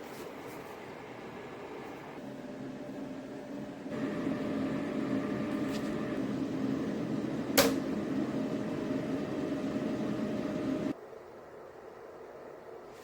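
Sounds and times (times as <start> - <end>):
space heater fan humming: 0.0 - 13.0.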